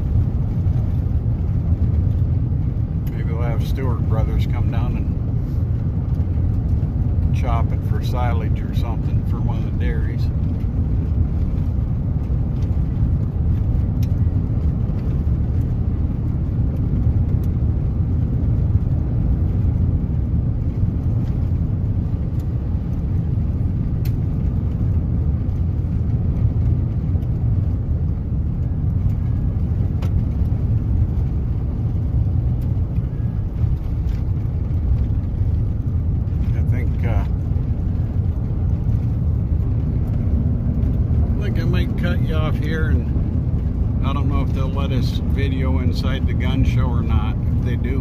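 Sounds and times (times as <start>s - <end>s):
vehicle rumbling on gravel: 0.0s - 48.0s.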